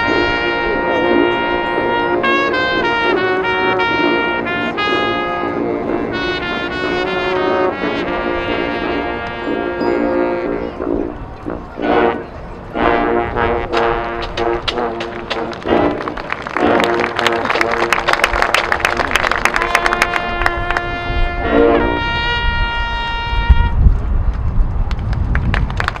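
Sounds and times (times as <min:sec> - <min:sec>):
marching band brass melody: 0:00.0 - 0:23.8
short loud brass chords: 0:00.0 - 0:23.8.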